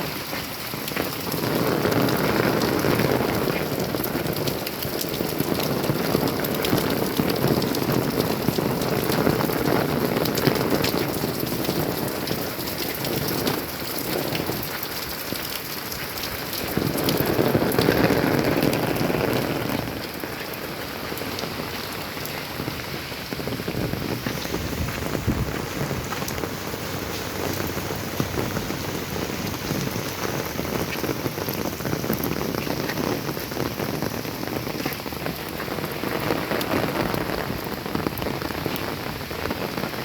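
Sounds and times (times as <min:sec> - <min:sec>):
rain falling: 0:00.0 - 0:40.0
raindrops ticking: 0:00.0 - 0:40.0.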